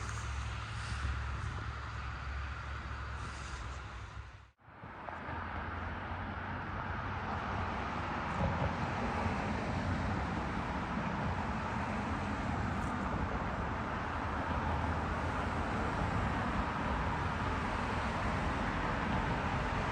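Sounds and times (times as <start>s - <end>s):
road traffic: 0.0s - 19.9s.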